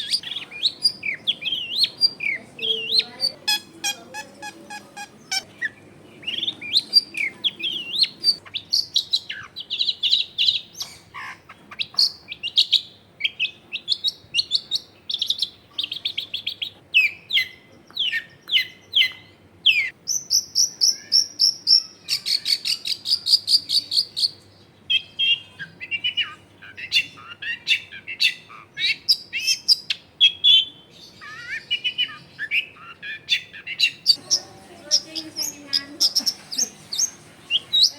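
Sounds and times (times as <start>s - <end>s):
bird singing chirps and whistles: 0.0s - 34.3s.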